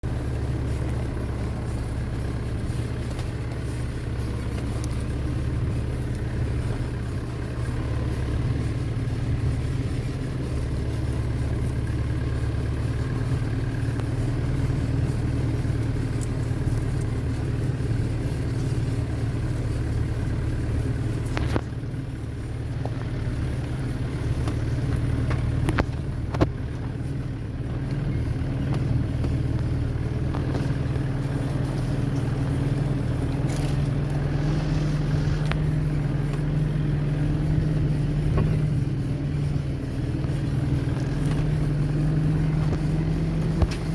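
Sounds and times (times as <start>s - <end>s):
engine running low rumble: 0.0s - 43.9s.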